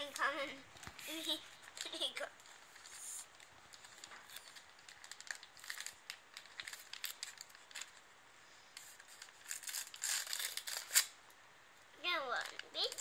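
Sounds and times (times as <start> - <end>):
wrapping paper crinkling and tearing: 0.0 - 8.1, 8.7 - 11.2, 12.2 - 13.0.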